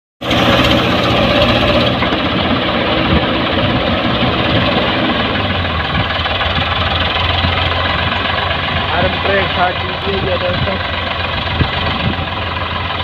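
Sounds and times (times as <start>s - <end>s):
tractor diesel engine under load: 0.2s - 13.0s.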